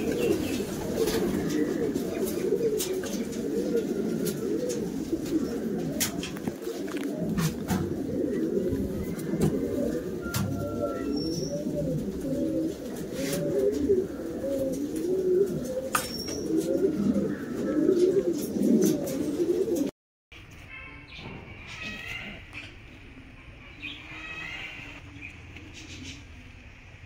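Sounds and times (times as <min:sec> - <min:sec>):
pigeons cooing: 0:00.0 - 0:19.9, 0:21.1 - 0:26.8.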